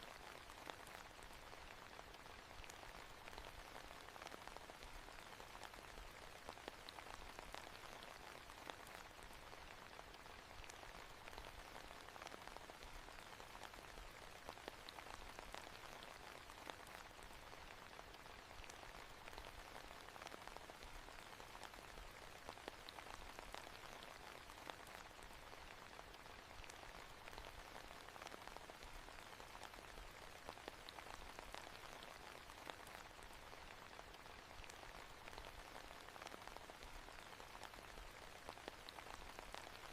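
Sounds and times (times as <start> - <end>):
faint steady rain: 0.0 - 39.9
raindrops pattering: 0.0 - 39.9.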